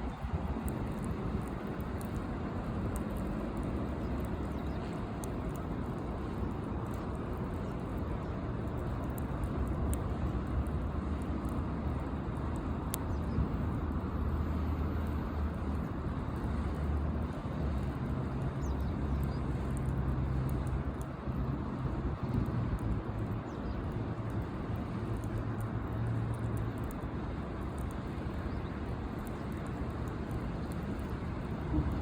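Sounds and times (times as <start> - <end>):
campfire crackles and pops: 0.0 - 32.0
steady low rumble: 0.0 - 32.0.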